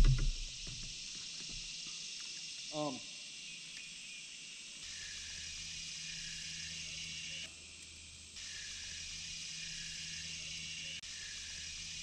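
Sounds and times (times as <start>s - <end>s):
insects droning: 0.0s - 12.0s
pulsing insect call: 0.0s - 12.0s.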